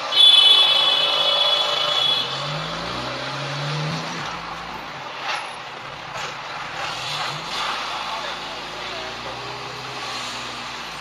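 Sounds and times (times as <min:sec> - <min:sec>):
traffic noise: 0:00.0 - 0:11.0
engine revving: 0:01.6 - 0:11.0.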